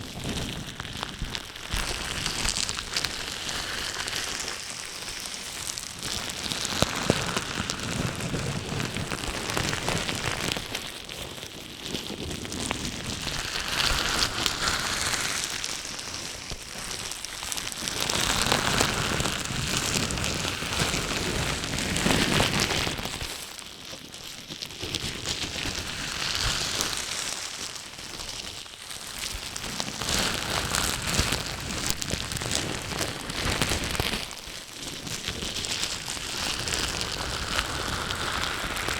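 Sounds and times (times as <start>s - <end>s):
crackling and rustling noise: 0.0s - 38.9s.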